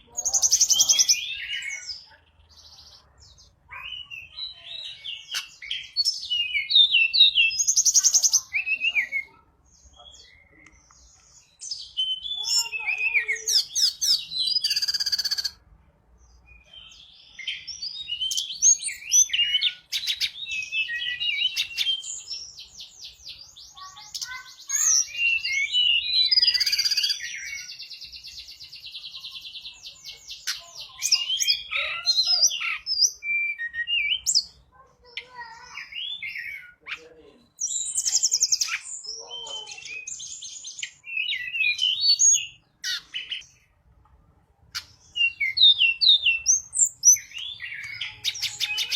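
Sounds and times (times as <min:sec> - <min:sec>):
songbird singing trills and whistles: 0:00.0 - 0:15.6, 0:16.3 - 0:43.8, 0:44.7 - 0:48.9.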